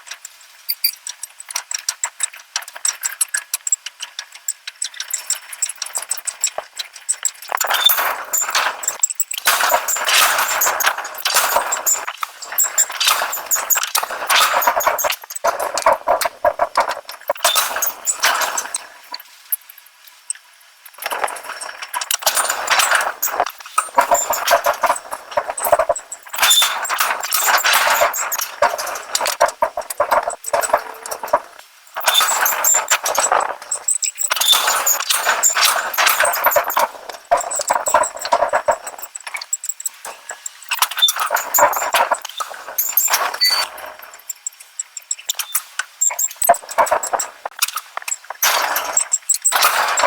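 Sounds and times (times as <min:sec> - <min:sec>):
metallic clicking and rattling: 0:00.0 - 0:19.2, 0:20.9 - 0:50.0.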